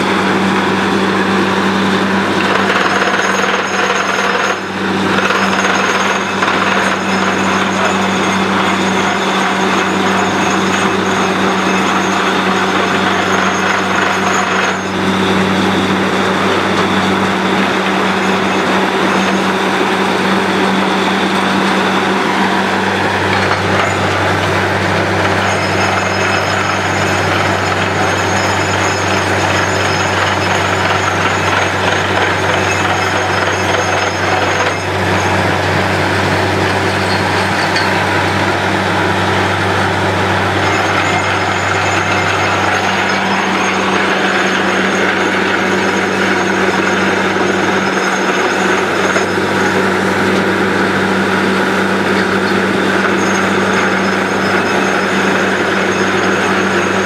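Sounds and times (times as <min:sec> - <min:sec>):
drilling rig engine drone: 0:00.0 - 0:57.0.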